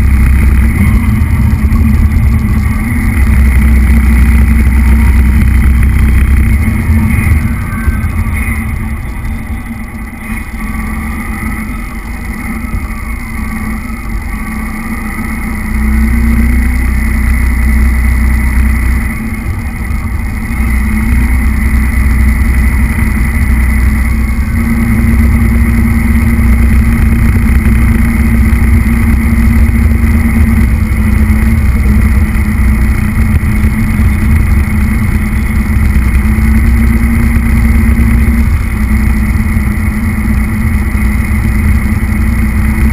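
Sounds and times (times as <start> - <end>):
toy truck motor humming: 0.0 - 42.9
wheels rumbling on tiled floor: 0.0 - 42.9.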